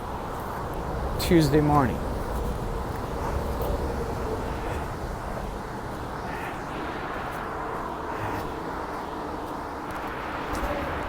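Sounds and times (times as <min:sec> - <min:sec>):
highway traffic rumble and hiss: 0:00.0 - 0:11.0.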